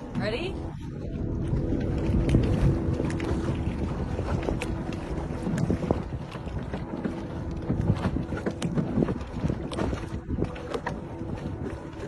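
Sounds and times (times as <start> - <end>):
water rushing: 0.0 - 12.0
wind buffeting microphone: 0.0 - 12.0.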